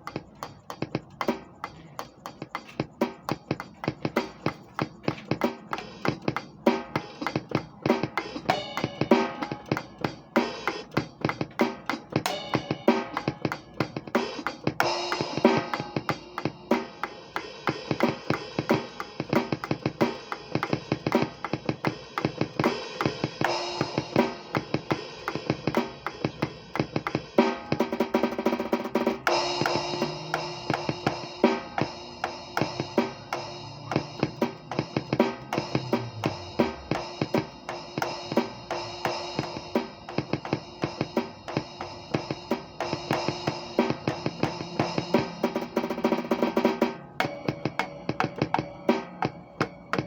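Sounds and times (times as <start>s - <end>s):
drum kit strikes: 0.0s - 50.0s
ringing cymbals: 0.4s - 50.0s.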